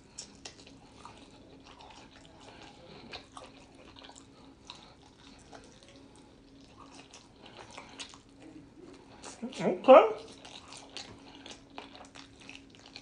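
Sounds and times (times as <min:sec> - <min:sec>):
person chewing and lip smacking: 0:00.0 - 0:13.0.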